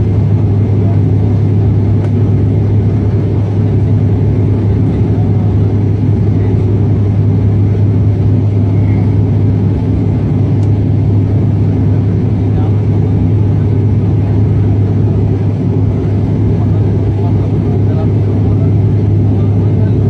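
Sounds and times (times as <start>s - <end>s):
turboprop engine and propeller drone: 0.0s - 20.0s.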